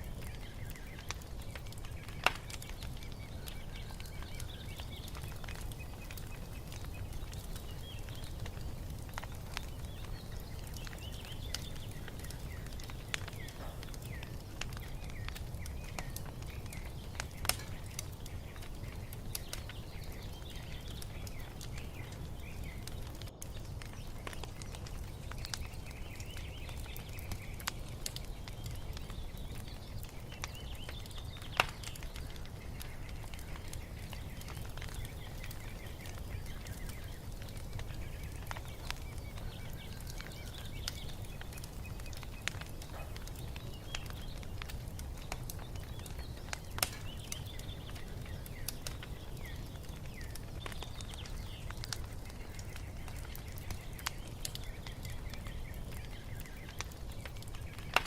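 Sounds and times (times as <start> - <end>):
songbirds chirping faintly: 0.0 - 58.0
wood fire crackling and popping: 0.0 - 58.0.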